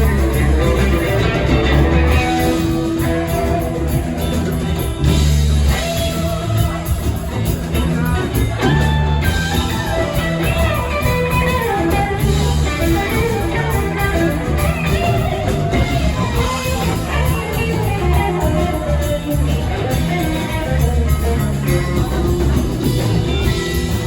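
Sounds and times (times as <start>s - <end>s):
electric guitar lead: 0.0s - 24.0s
sustained bass notes: 0.0s - 24.0s.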